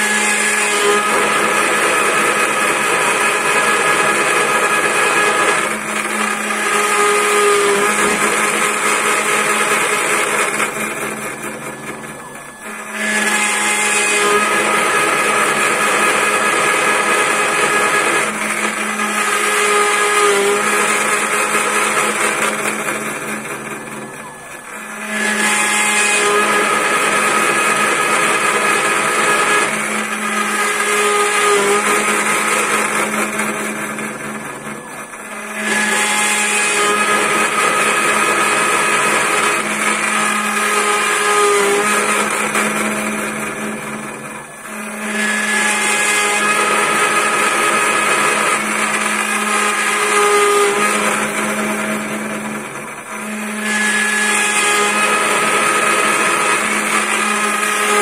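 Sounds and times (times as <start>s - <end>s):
machine whine: 0.0s - 58.0s
milling cutter cutting wood: 0.0s - 58.0s.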